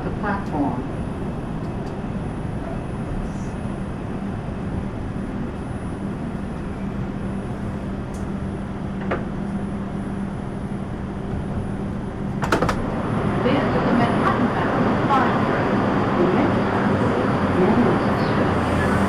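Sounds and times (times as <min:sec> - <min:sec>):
subway car hum and rumble: 0:00.0 - 0:19.0.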